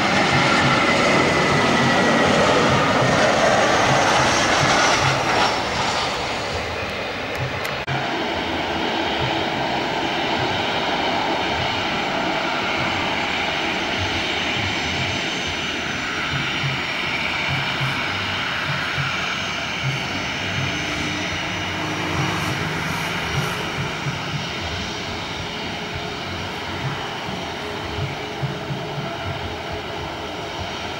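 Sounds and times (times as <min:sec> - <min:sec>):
jet engines running: 0:00.0 - 0:30.9.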